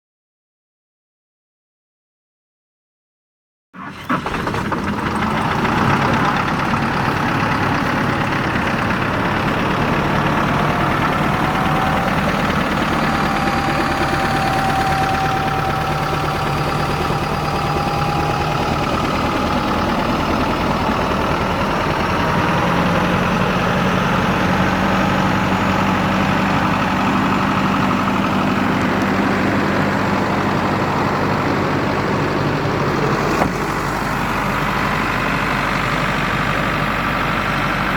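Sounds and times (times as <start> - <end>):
truck engine idling: 3.8 - 37.9.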